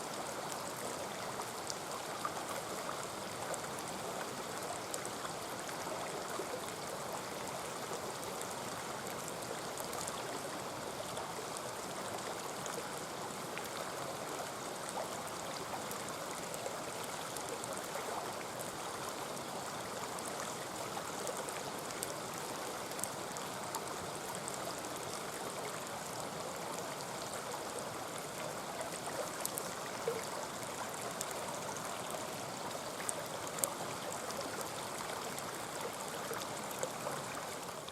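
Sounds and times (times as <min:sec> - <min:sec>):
stream babbling over rocks: 0:00.0 - 0:37.9.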